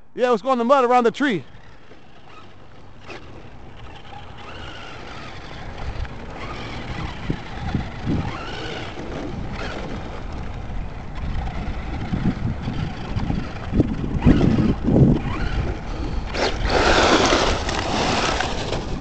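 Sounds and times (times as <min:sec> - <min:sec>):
tyres rumbling on asphalt: 0:01.0 - 0:19.0
electric motor whine: 0:01.4 - 0:19.0
wind on camera: 0:01.5 - 0:19.0.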